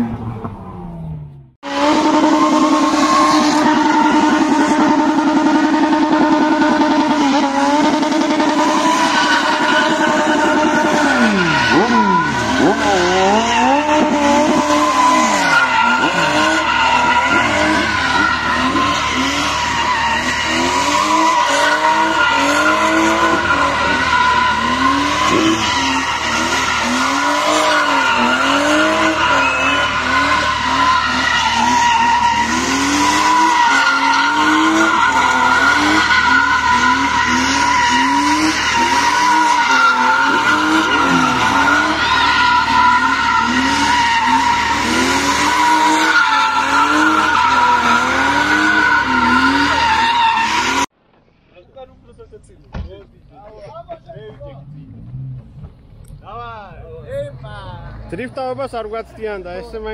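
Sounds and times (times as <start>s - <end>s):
car engine revving: 0.0s - 50.9s
tyres squealing: 1.7s - 50.9s.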